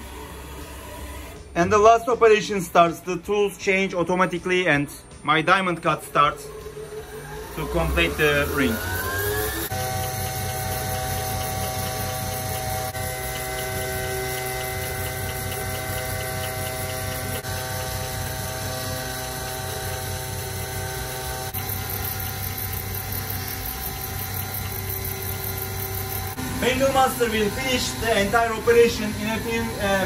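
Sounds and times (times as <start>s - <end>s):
milling machine spindle whining: 0.0s - 1.5s, 6.0s - 30.0s.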